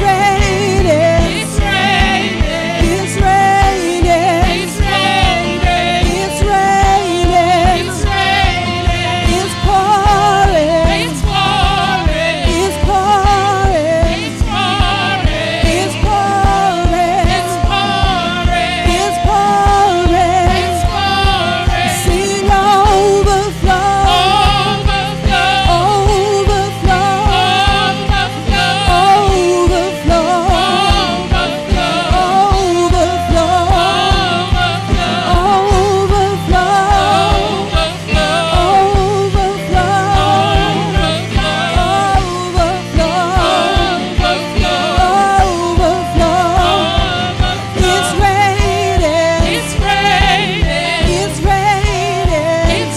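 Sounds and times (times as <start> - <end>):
bass: 0.0 - 52.9
drum kit beat: 0.0 - 52.9
electric guitar: 0.0 - 52.9
women singing with vibrato: 0.0 - 52.9.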